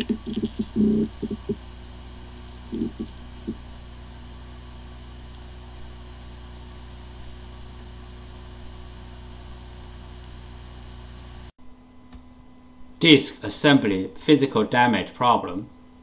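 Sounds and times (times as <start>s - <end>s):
hard drive spinning hum: 0.0s - 12.8s.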